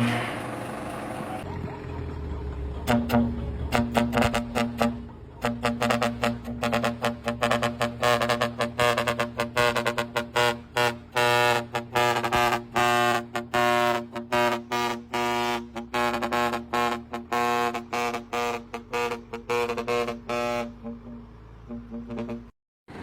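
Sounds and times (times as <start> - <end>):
musical horn playing fast tune: 2.8 - 22.5.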